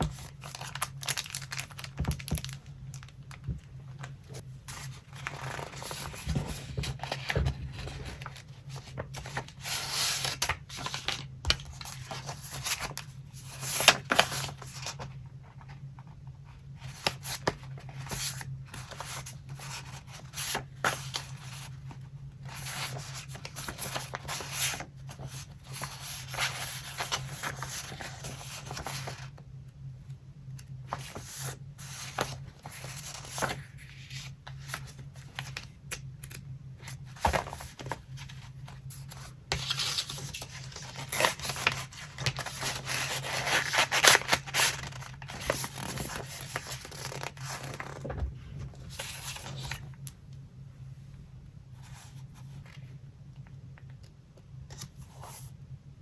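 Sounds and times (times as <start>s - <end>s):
paper rustling and crinkling: 0.0s - 16.1s, 16.7s - 29.3s, 30.8s - 49.9s
low steady hum: 0.0s - 56.0s.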